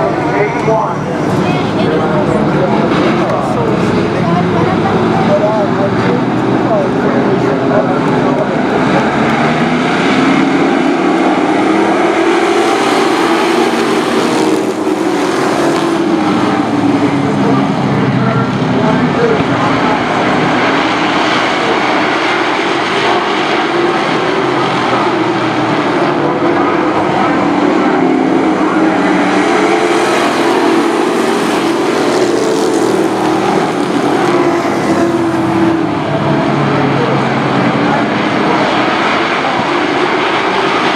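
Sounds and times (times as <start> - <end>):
race truck engines: 0.0 - 40.9.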